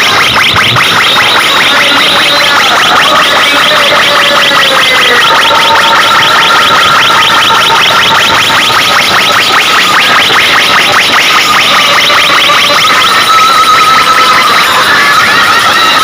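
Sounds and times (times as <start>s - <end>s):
buzzing electronic pulse: 0.0s - 16.0s
steady high tone: 0.0s - 16.0s.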